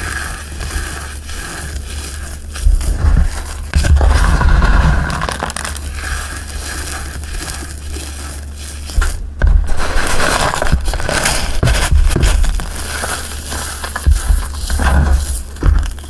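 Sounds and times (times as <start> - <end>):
chalk being crushed and crumbled: 0.0 - 16.0.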